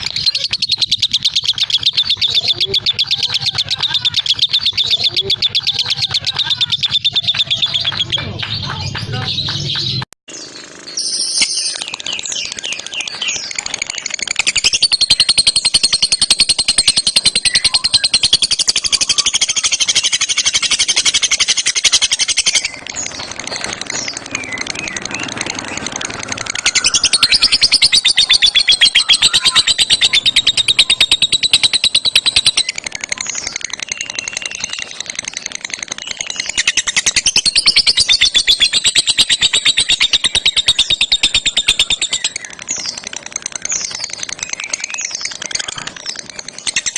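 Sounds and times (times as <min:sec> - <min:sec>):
lovebird chattering trill: 0:00.0 - 0:46.9.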